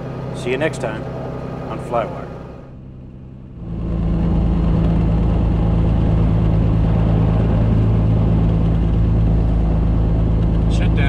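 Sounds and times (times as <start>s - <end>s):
aircraft engine idling: 0.0s - 11.0s.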